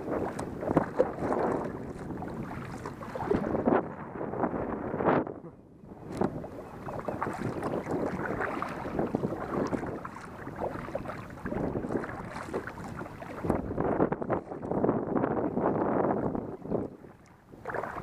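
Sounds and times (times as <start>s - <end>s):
water splashing from paddle strokes: 0.0s - 4.1s, 6.0s - 14.9s, 16.3s - 18.0s
wind buffeting microphone: 0.0s - 18.0s.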